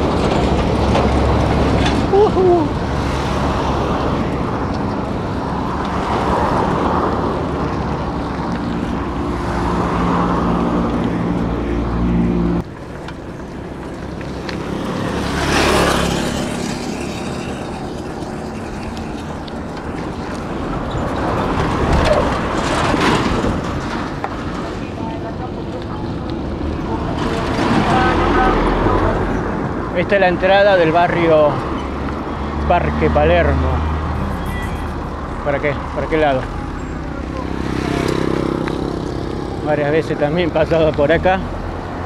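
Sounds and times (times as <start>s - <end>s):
vehicle passing by: 0.0s - 12.7s, 13.4s - 23.7s, 25.8s - 42.0s
vehicle engine humming: 0.0s - 42.0s.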